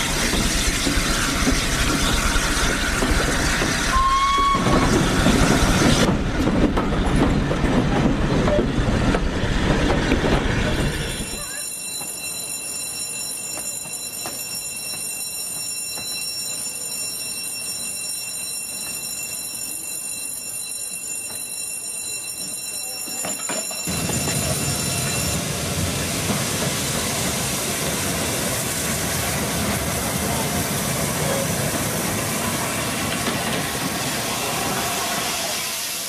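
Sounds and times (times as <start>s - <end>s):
steam locomotive rushing: 0.0s - 21.4s, 22.2s - 36.0s.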